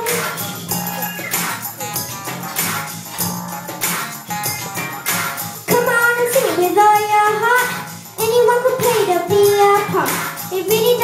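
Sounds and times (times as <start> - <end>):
upbeat pop instrumental: 0.0 - 11.0.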